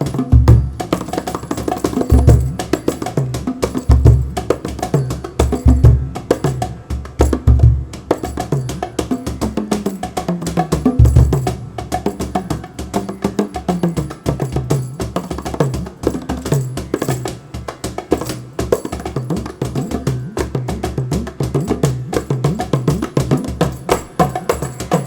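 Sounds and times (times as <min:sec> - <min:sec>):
hand drums playing fast rhythm: 0:00.0 - 0:25.0.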